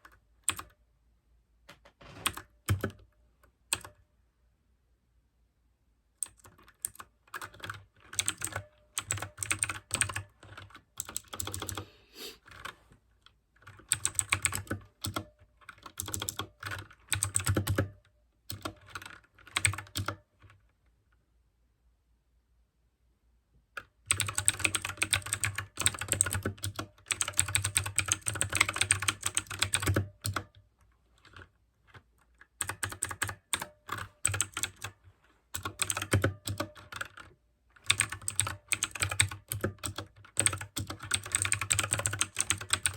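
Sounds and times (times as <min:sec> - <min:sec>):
typing on clicky mechanical keyboard: 0:00.0 - 0:00.8, 0:01.7 - 0:03.1, 0:03.7 - 0:04.0, 0:06.2 - 0:11.8, 0:12.4 - 0:20.6, 0:23.8 - 0:42.9.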